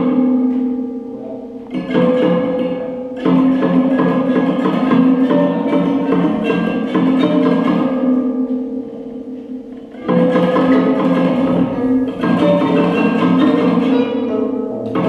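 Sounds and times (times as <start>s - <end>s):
bicycle played as instrument: 0.0s - 15.0s.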